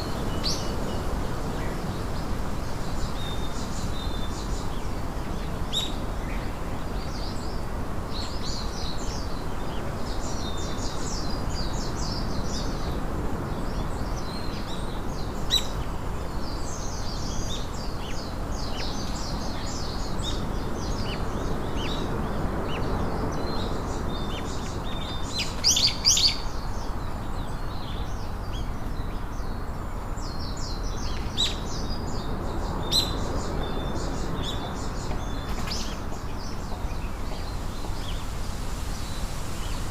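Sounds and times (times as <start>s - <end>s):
small birds chirping: 0.0s - 39.9s
steady low background noise: 0.0s - 39.9s.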